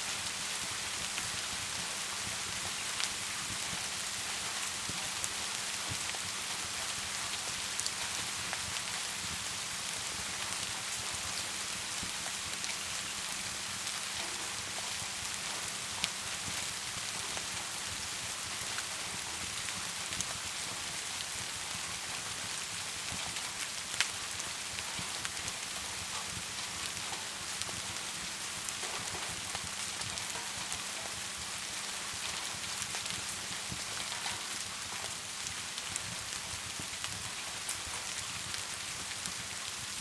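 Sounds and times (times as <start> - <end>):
steady rain-like hiss: 0.0 - 40.0
wood fire crackling: 0.1 - 40.0.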